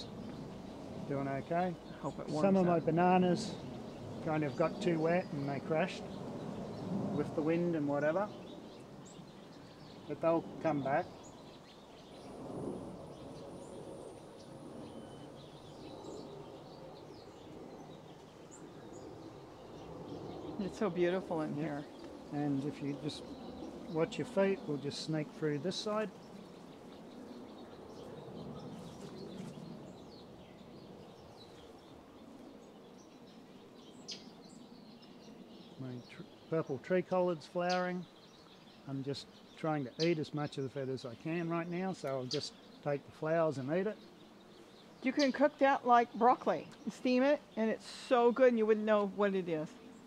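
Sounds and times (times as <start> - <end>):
faint outdoor background: 0.0 - 50.0
low background noise: 0.0 - 50.0
small birds chirping: 0.0 - 50.0.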